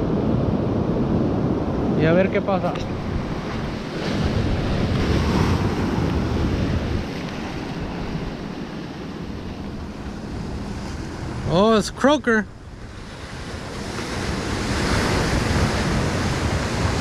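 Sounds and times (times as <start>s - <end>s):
surf washing over boulders: 0.0s - 17.0s
wind buffeting microphone: 0.0s - 17.0s.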